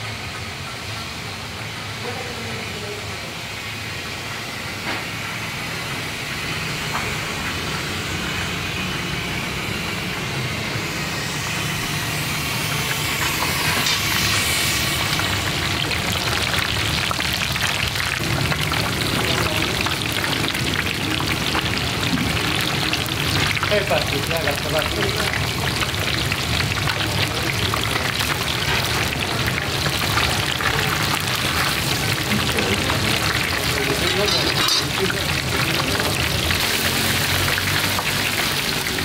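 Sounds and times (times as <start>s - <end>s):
fish deep-frying in hot oil: 0.0s - 39.0s.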